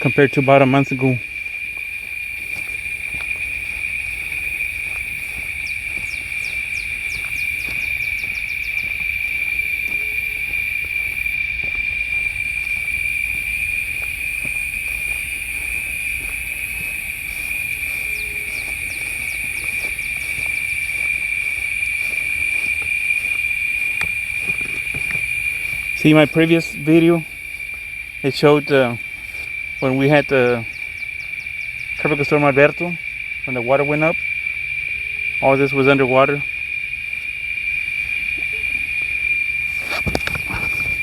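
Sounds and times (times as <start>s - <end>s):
insects singing: 0.0s - 41.0s.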